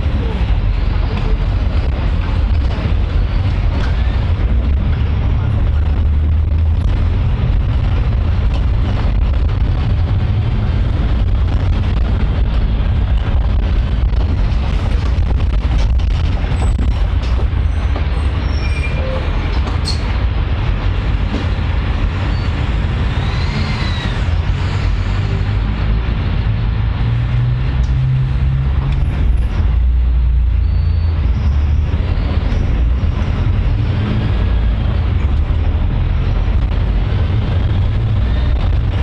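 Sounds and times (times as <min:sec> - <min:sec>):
bus engine low rumble: 0:00.0 - 0:39.0.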